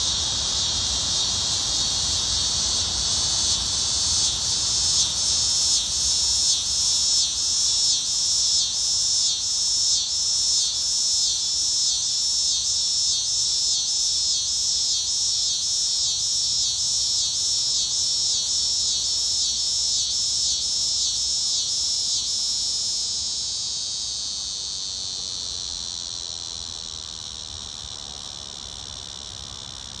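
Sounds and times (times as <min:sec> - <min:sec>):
cicada buzzing: 0:00.0 - 0:30.0.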